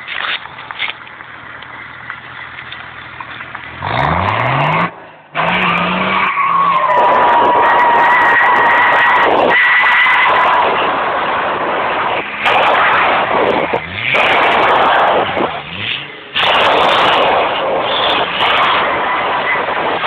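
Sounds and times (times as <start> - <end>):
tyres spinning in a burnout: 0.4 - 20.0
engine revving: 3.8 - 20.0.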